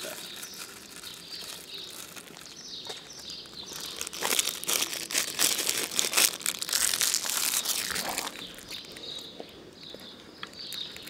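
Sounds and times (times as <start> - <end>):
plastic wrapper crinkling: 0.0 - 9.3
wrapper crackles: 0.0 - 9.3.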